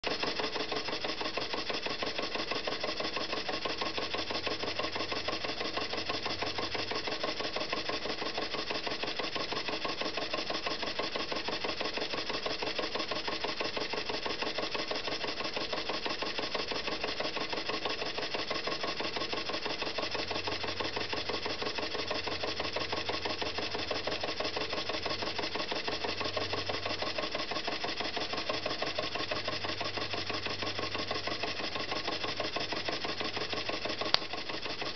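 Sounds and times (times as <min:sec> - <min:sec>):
toy steam engine clattering: 0:00.1 - 0:34.9.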